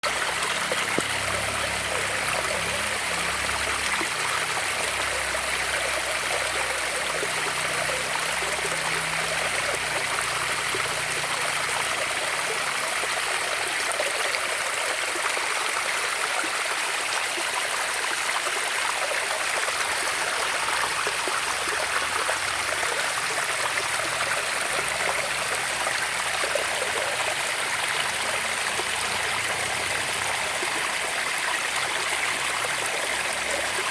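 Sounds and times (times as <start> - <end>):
running water flowing: 0.0 - 33.9.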